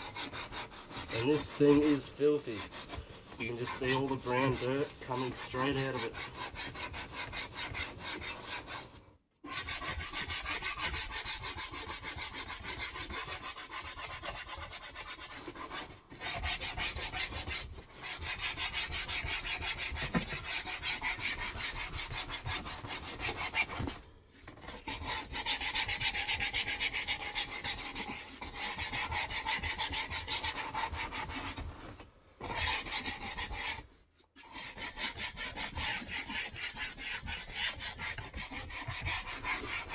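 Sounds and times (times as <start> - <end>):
brush scrubbing vinyl: 0.0 - 39.9.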